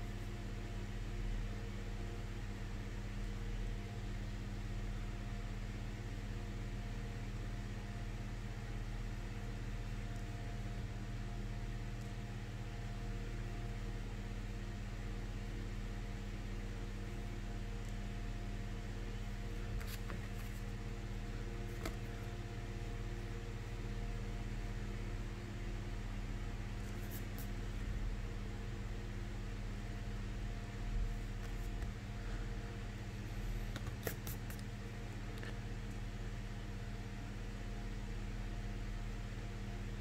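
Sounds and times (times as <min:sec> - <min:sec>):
electrical hum with hiss: 0:00.0 - 0:40.0.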